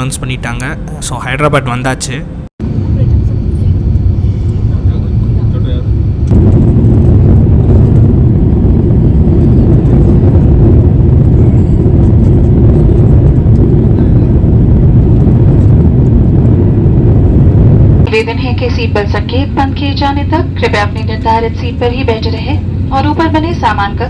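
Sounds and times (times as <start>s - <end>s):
low rumble of aircraft landing: 2.2s - 24.0s.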